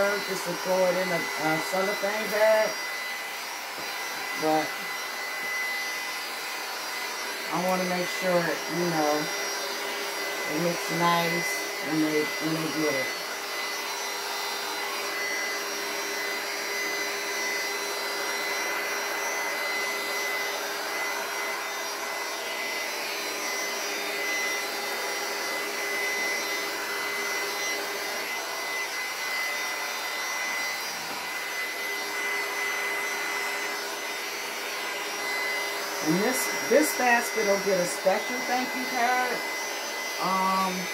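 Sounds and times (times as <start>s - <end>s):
heat gun running: 0.0s - 40.9s.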